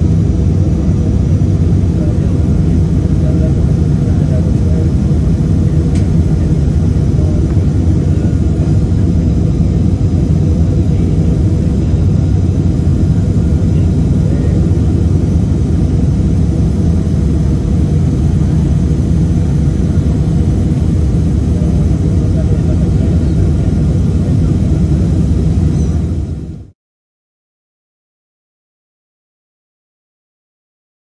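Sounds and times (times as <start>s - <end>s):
airplane cabin engine rumble: 0.0s - 26.8s.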